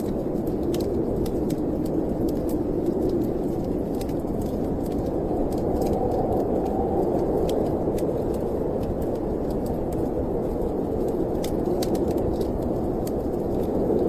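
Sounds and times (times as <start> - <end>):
fireplace fire crackling: 0.0 - 14.0
storm wind rushing: 0.0 - 14.0.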